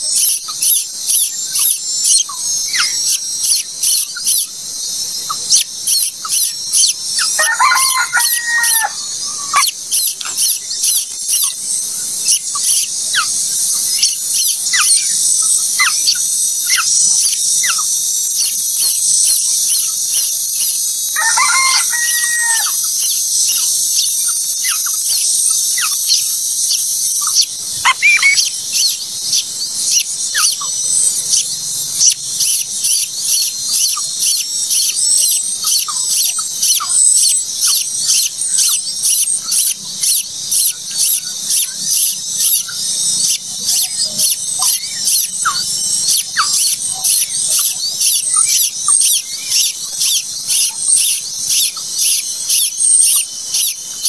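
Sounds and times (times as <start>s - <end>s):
longer lower bird call: 0.0s - 54.0s
nestlings squeaking and chirping: 0.0s - 54.0s.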